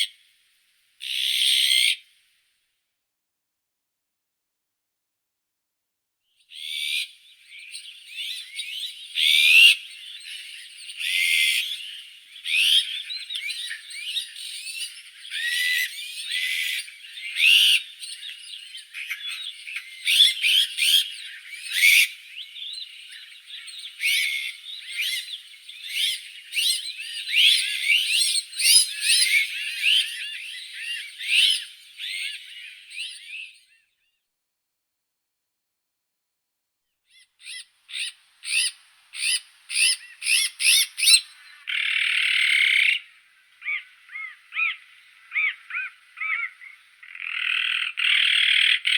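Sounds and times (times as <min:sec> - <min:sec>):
magpies whistled calls: 0:01.0 - 0:02.1, 0:06.5 - 0:33.9, 0:37.1 - 0:48.9.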